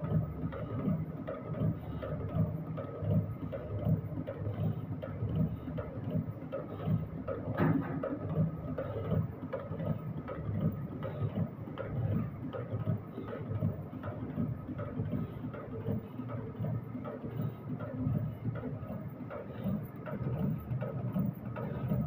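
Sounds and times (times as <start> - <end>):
machine clattering rhythmically: 0.0 - 22.0.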